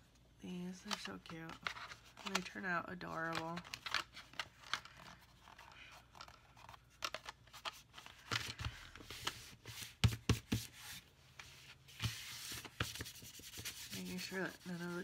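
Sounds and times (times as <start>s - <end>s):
paper rustling and scraping: 0.9s - 15.0s.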